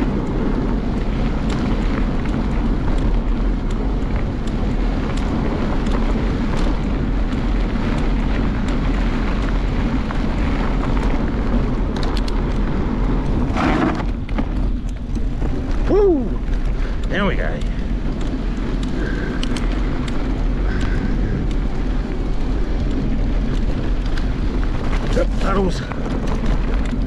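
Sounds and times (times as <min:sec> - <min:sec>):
tyres rumbling over dirt trail: 0:00.0 - 0:27.0
wind buffeting microphone: 0:00.0 - 0:27.0.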